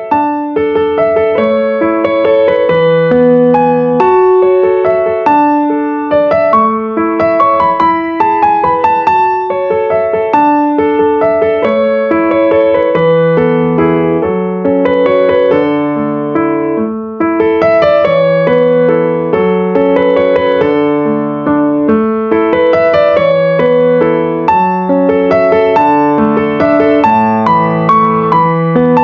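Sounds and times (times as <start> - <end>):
piano music: 0.0 - 29.0.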